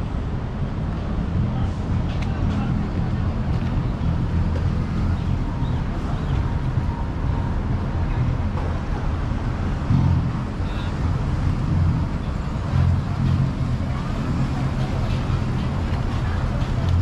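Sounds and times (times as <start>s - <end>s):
low urban rumble: 0.0s - 17.0s
distant voices: 0.6s - 17.0s.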